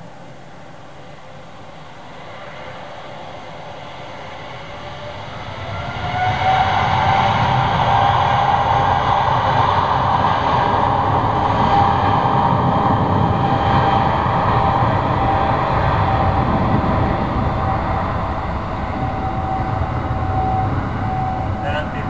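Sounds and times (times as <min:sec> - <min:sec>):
jet engine whine: 0:00.0 - 0:22.0
jet engine roar: 0:01.0 - 0:22.0.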